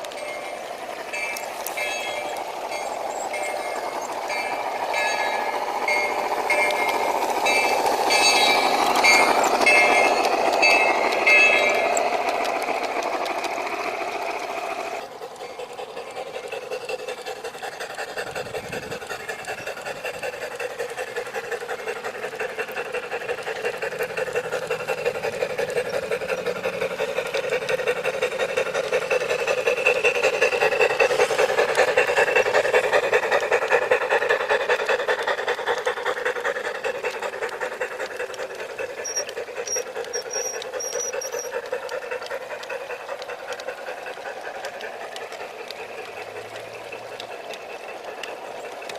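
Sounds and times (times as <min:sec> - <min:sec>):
model train clattering on track: 0:00.0 - 0:48.9.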